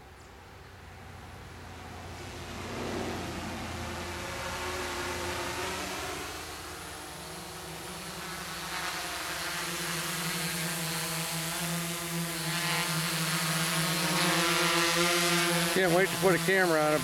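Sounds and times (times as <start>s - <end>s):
quadcopter buzzing hum: 0.0s - 17.0s.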